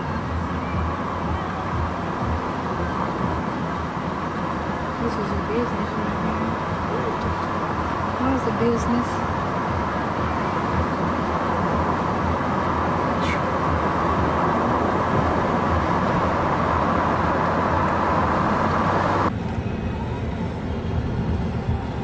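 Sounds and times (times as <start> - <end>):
vehicle road and engine noise: 0.0 - 22.0.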